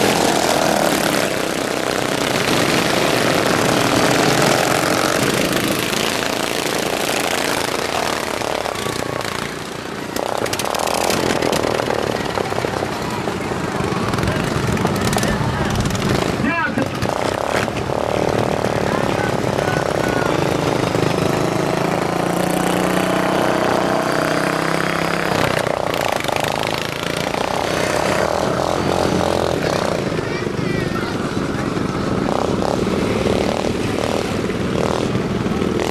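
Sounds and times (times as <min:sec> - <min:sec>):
lawn mower engines running: 0:00.0 - 0:35.9.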